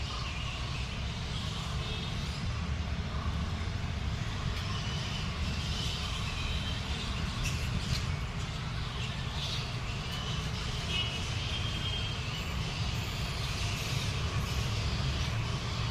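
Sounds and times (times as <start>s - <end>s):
birds chirping and chattering: 0.0s - 15.9s.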